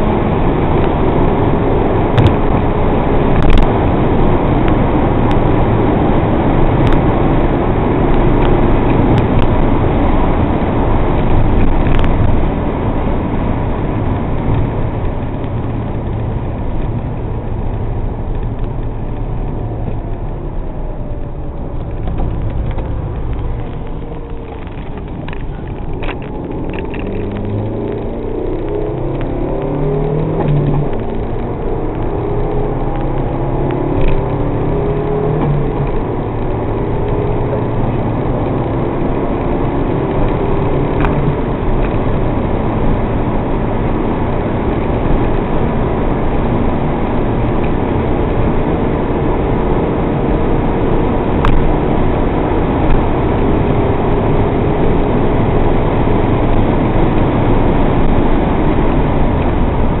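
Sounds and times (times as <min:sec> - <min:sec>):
car engine running hard: 0:00.0 - 1:00.0
road noise: 0:00.0 - 1:00.0
wind noise: 0:00.0 - 1:00.0.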